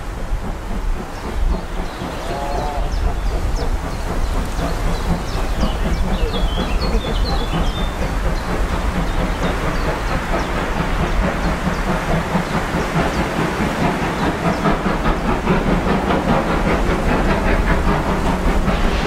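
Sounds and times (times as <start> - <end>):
steam locomotive exhaust beats: 0.0 - 19.0.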